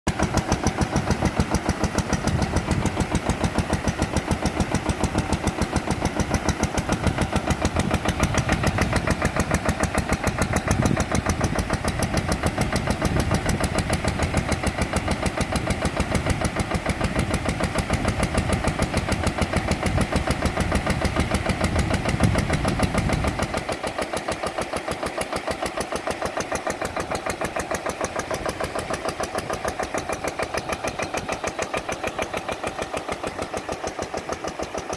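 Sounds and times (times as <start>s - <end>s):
engine chugging: 0.1s - 34.9s.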